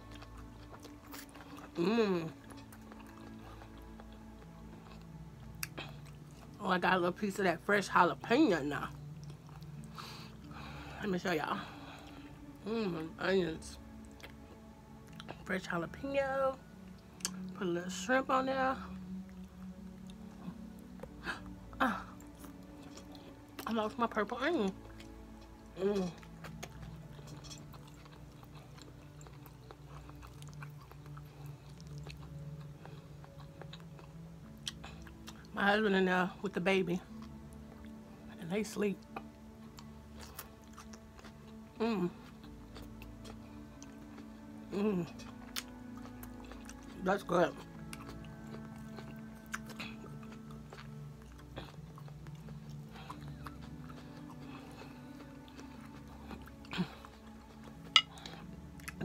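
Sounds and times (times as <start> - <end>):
close chewing: 0.0 - 6.6, 8.7 - 10.9, 13.6 - 15.8, 16.5 - 18.0, 18.6 - 35.6, 39.0 - 59.0
low steady hum: 0.0 - 59.0.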